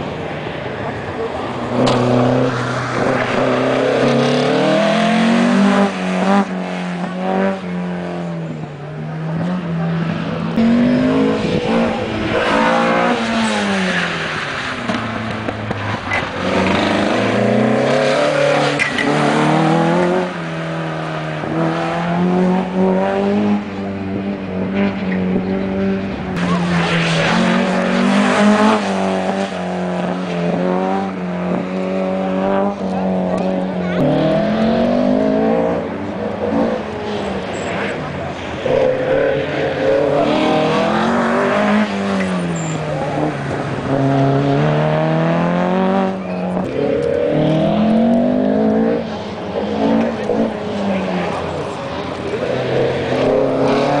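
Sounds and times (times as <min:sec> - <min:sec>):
car engine revving hard: 0:01.6 - 0:08.4, 0:09.3 - 0:54.0.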